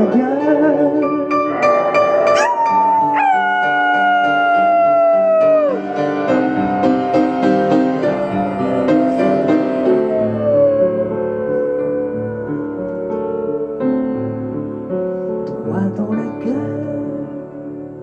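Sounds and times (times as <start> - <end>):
keyboard chords: 0.0 - 18.0.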